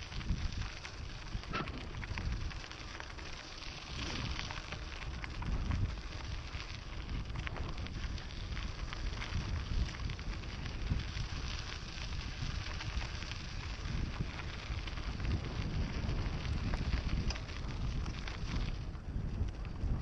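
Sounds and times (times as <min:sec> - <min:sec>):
bike tyres crunching on dirt: 0:00.0 - 0:20.0
wind rumble on microphone: 0:00.0 - 0:20.0.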